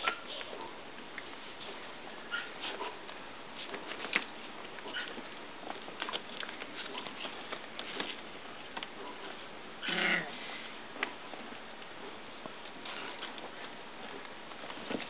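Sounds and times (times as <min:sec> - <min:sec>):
puppies scuffling on a sheet: 0:00.0 - 0:09.8, 0:10.4 - 0:15.0.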